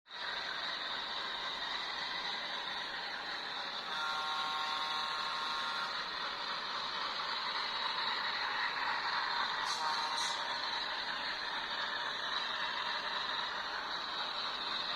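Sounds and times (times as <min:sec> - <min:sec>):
diesel locomotive engine running: 0:00.1 - 0:14.9.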